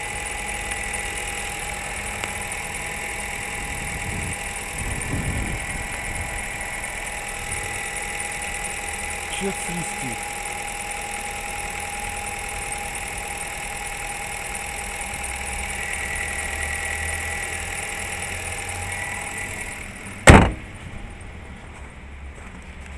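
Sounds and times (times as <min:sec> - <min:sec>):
high whine: 0:00.0 - 0:21.4
car engine idling: 0:00.0 - 0:22.4.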